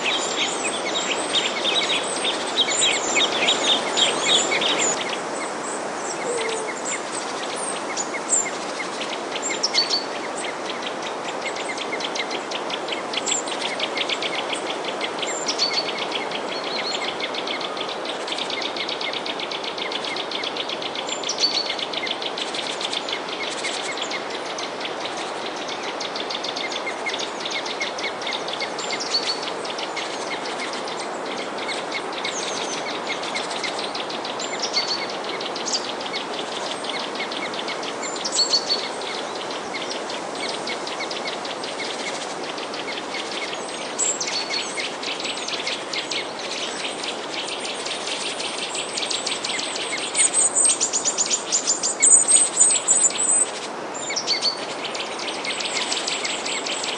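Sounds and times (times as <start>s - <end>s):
background hiss: 0.0s - 56.9s
small birds chirping: 0.0s - 56.9s.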